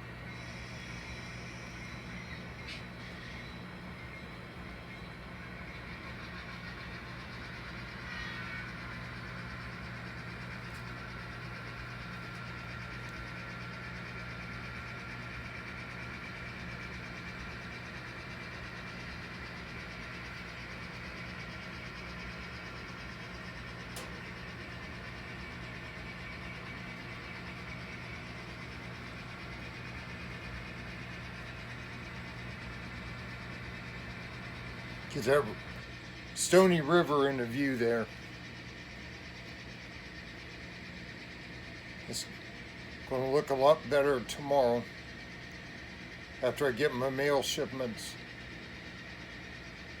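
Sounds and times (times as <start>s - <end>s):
model train humming: 0.0s - 50.0s.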